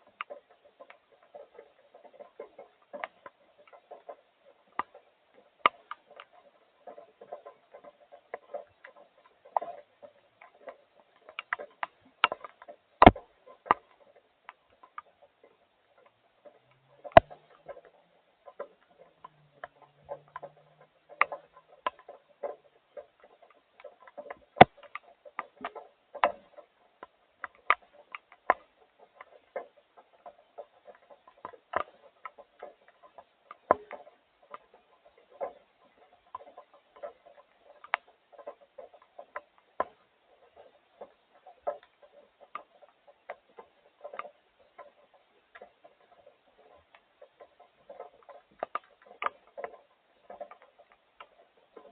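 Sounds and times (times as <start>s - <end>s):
raindrops tapping on hard surface: 0.0s - 51.9s.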